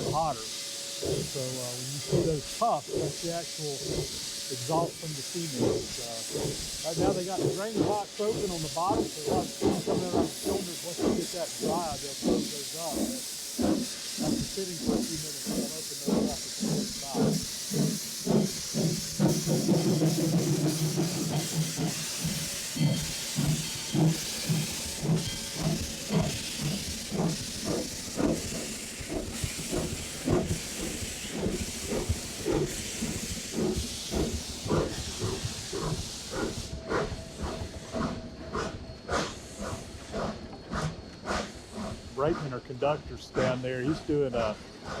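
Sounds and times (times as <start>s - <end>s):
rhythmic beat of steam locomotive: 0.0s - 45.0s
steam hissing from cylinders: 0.0s - 45.0s.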